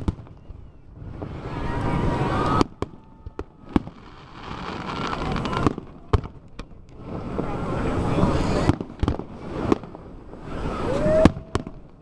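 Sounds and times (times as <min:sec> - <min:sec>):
firework bangs: 0:00.0 - 0:12.0
fireworks whooshing swells: 0:00.0 - 0:12.0.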